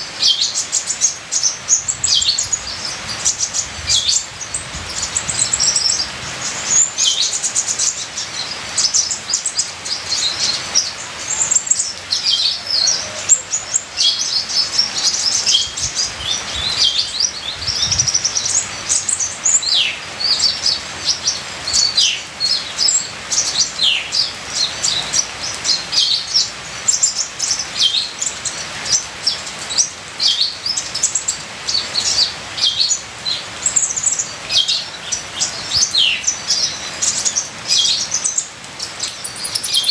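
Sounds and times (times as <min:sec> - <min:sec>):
sunbird singing: 0:00.0 - 0:39.9
trickling water: 0:00.0 - 0:39.9.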